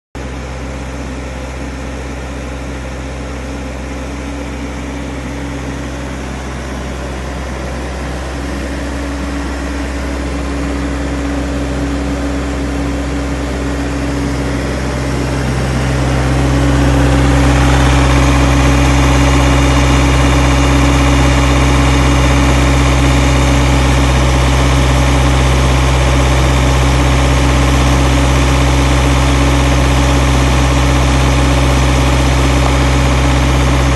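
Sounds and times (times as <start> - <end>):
diesel refrigeration unit idling: 0.2 - 33.9.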